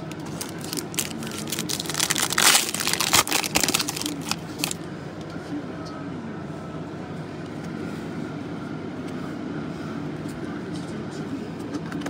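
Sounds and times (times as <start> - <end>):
machine hum and hiss: 0.0 - 12.0.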